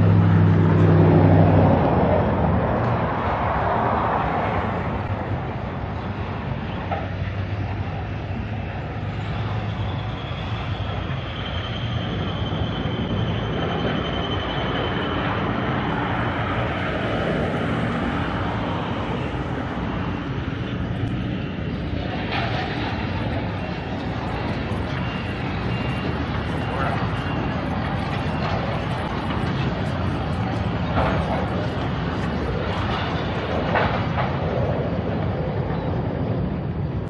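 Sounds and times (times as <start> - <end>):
traffic and machinery rumble: 0.0 - 37.0
faint high whine: 5.8 - 37.0.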